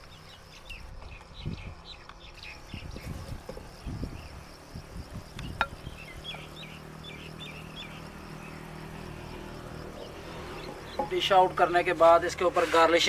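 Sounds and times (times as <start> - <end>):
small bird chirping: 0.0 - 11.3.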